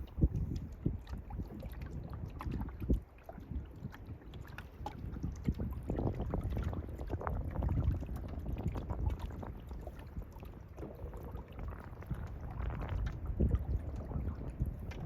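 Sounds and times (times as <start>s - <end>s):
canoe paddle splashing water: 0.0s - 15.0s
water trickling along hull: 0.0s - 15.0s
wind rumble on microphone: 0.0s - 15.0s.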